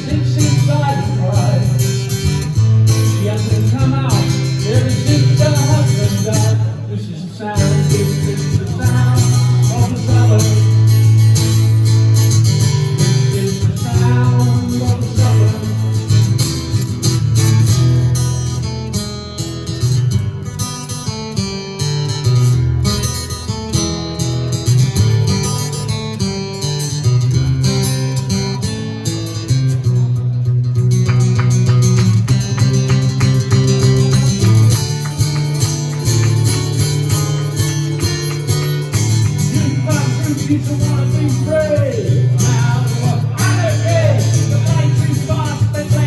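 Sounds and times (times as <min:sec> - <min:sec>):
strummed guitar: 0:00.0 - 0:46.0
steady rock rhythm: 0:07.7 - 0:46.0.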